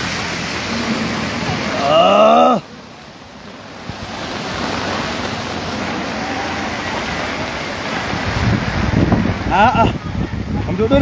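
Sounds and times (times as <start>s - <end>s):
floodwater rushing: 0.0s - 11.0s
low rumbling gusts: 0.0s - 11.0s.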